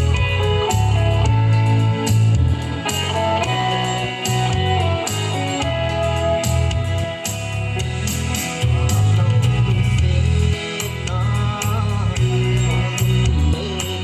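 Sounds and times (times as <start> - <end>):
bass line: 0.0 - 14.0
guitar: 0.0 - 14.0
regular beat: 0.0 - 14.0.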